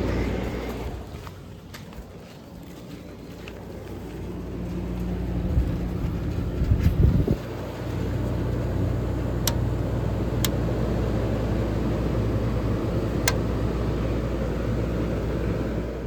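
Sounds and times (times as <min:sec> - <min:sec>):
air conditioner fan rushing: 0:00.0 - 0:16.0
low compressor hum: 0:00.0 - 0:16.0.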